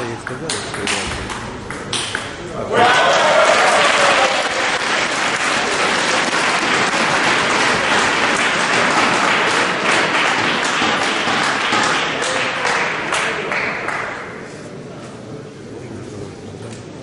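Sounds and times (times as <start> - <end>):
crowd applauding: 0.1 - 14.6.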